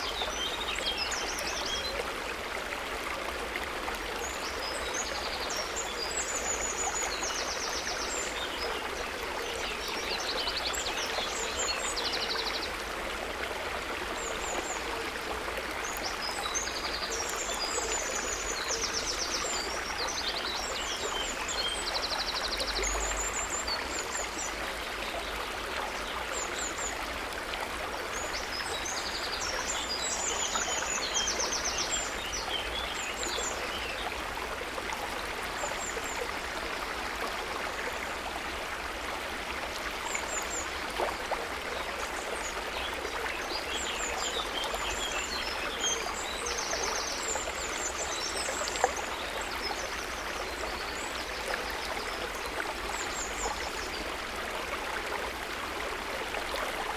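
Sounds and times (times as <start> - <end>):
river flowing: 0.0 - 56.9.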